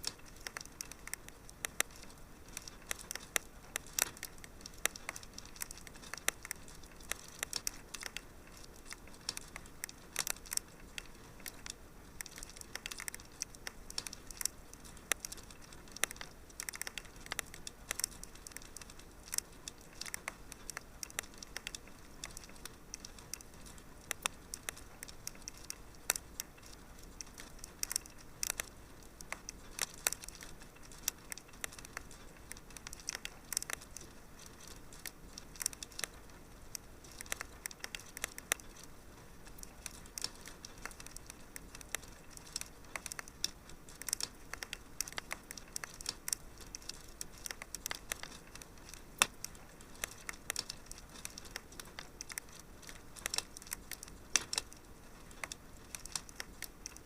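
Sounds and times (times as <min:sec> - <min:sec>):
soft steady hiss of fire: 0:00.0 - 0:57.0
wood fire crackling and popping: 0:00.0 - 0:57.0.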